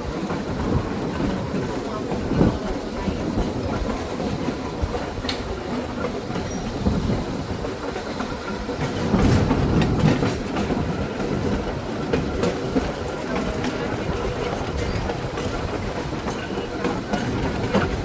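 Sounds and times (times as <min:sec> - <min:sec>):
trolley wheels rumbling on rails: 0:00.0 - 0:18.0.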